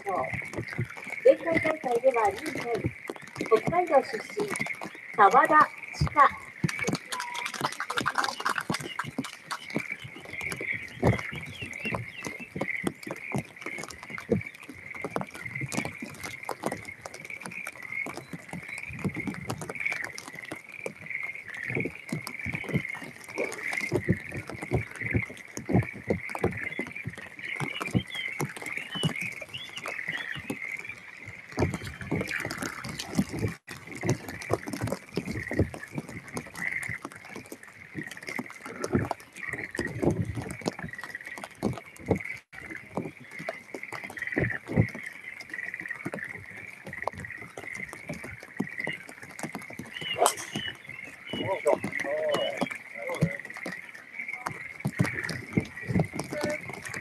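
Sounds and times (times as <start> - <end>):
frogs trilling: 0.0 - 57.0
raindrops tapping: 0.0 - 57.0.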